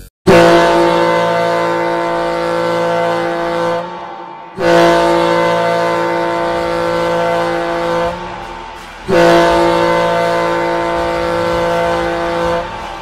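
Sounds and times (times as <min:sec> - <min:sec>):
hockey goal horn blasts: 0:00.3 - 0:13.0.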